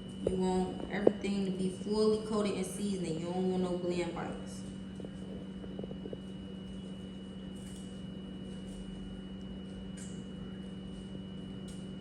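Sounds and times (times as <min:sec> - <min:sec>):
high whine: 0:00.0 - 0:12.0
low electrical hum: 0:00.0 - 0:12.0.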